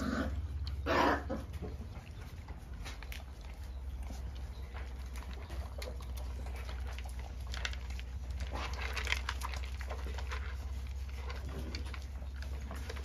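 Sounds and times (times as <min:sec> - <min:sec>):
puppies crunching kibble: 0:00.0 - 0:13.0.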